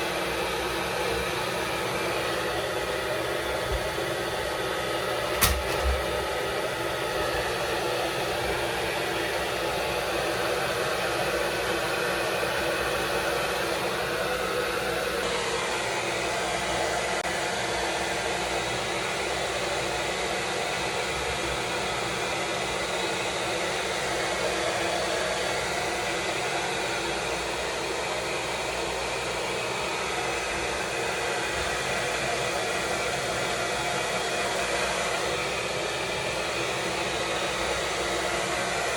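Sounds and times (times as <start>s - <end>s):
blow dryer running: 0.0s - 38.9s.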